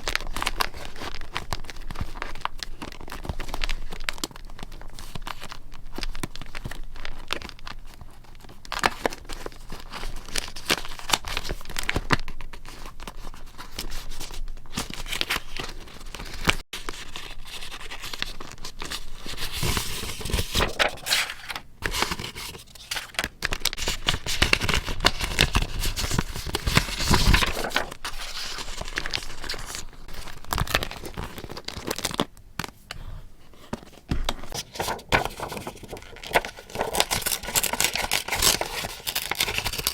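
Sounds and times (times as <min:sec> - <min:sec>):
paper crinkling and tearing: 0:00.0 - 0:33.0, 0:33.6 - 0:39.9.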